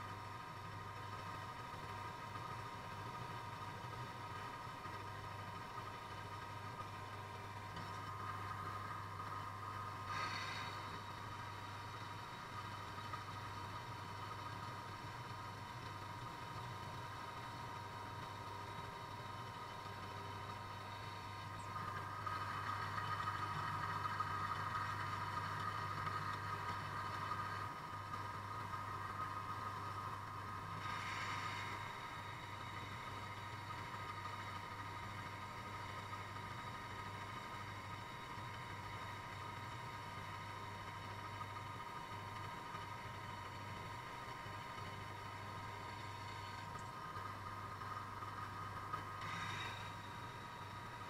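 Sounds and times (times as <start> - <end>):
drill press motor humming: 0.0 - 51.0
thin steady whine: 0.0 - 51.0.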